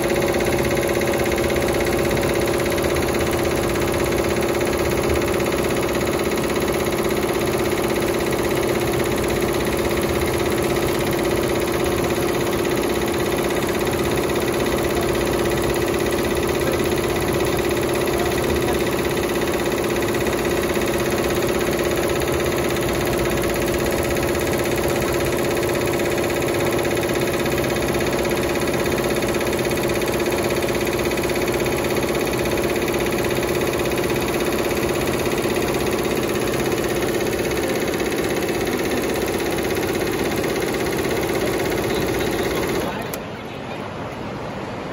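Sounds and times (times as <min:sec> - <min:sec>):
embroidery machine stitching: 0:00.0 - 0:43.3
constant mechanical hum: 0:00.0 - 0:44.9.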